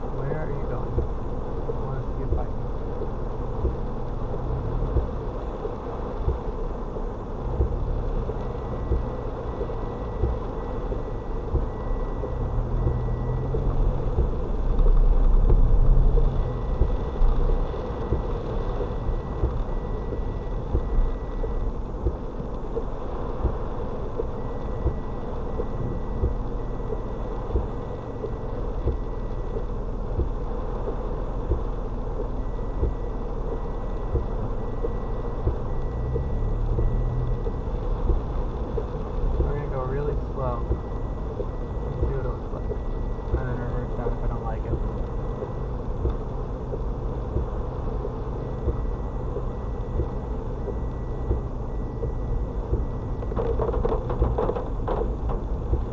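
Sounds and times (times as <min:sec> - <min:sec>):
car cabin road and rain rumble: 0:00.0 - 0:55.9
faint high-pitched beeping: 0:03.6 - 0:54.6.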